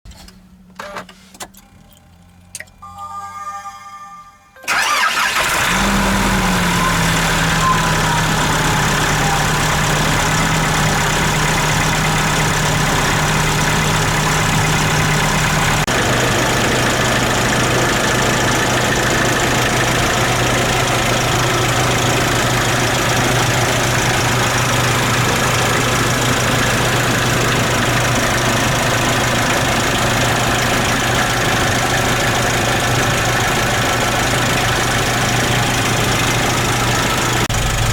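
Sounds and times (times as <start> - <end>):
diesel engine starting and idling: 4.6 - 37.9.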